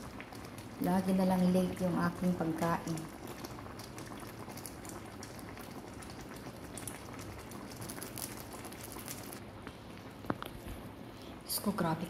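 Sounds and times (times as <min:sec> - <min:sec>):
pot boiling with bubbling: 0:00.0 - 0:12.0.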